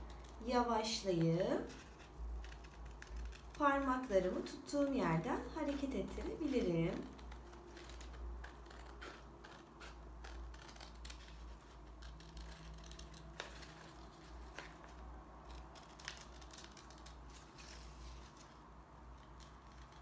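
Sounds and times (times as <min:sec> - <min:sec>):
scissors cutting paper: 0:00.0 - 0:20.0.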